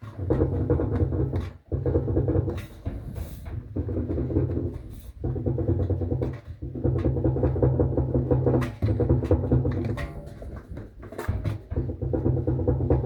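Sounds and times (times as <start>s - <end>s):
washer drum rumbling: 0.0s - 13.0s.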